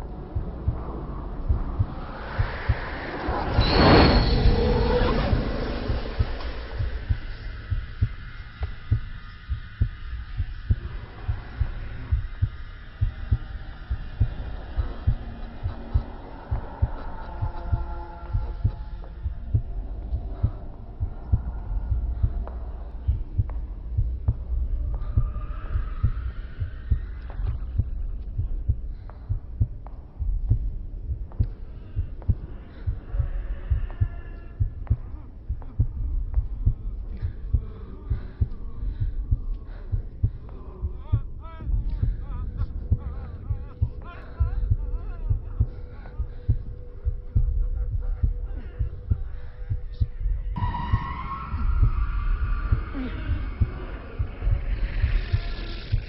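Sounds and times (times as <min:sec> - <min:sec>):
faint higher sounds: 0:00.0 - 0:56.0
heartbeat thumps: 0:00.0 - 0:56.0.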